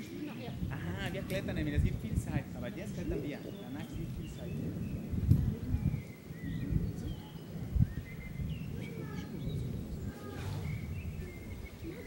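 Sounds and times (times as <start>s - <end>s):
small birds chirping: 0.0s - 12.0s
wind rumble on microphone: 0.0s - 12.0s.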